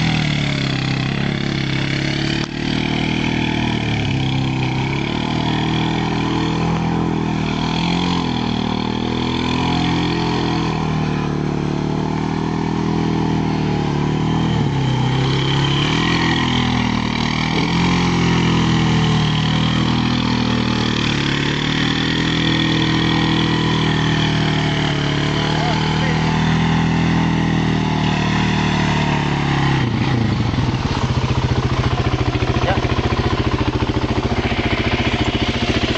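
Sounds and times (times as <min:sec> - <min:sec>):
atv engine revving: 0:00.0 - 0:35.9.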